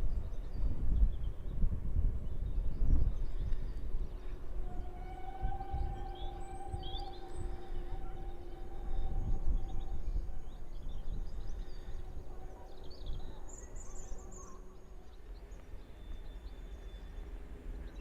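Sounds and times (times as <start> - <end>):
wind buffeting microphone: 0.0 - 18.0
birds chirping: 2.8 - 18.0.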